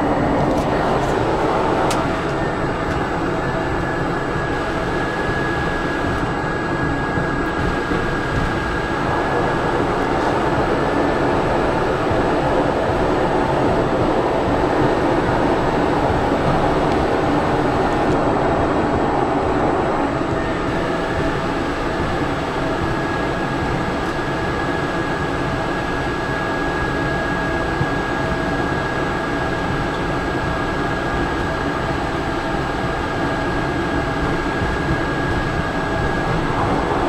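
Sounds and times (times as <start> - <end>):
turboprop cabin drone: 0.0 - 37.0.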